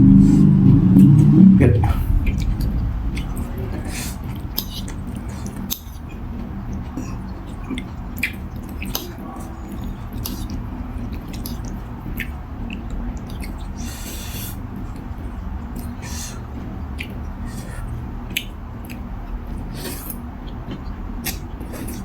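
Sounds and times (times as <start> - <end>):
steady low hum: 0.0 - 22.0
wet chewing with clicks: 2.1 - 22.0.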